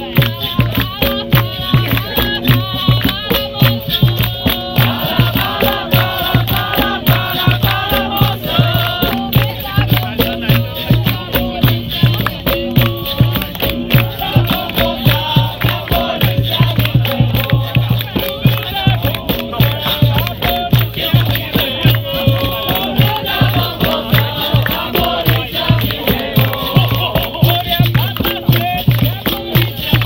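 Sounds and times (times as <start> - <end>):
berimbaus and hand percussion: 0.0 - 30.0
group singing: 0.0 - 30.0.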